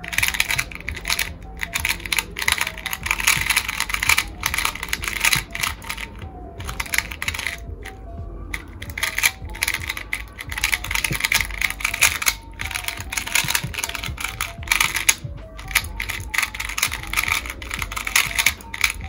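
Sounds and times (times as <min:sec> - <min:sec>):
faint background music: 0:00.0 - 0:19.0
puzzle cube clacking: 0:00.0 - 0:19.0.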